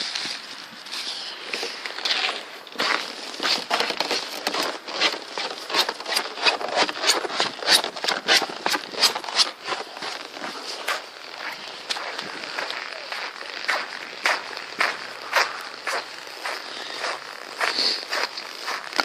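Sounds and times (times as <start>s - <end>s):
footsteps squeaking on frozen snow: 0.0s - 19.0s.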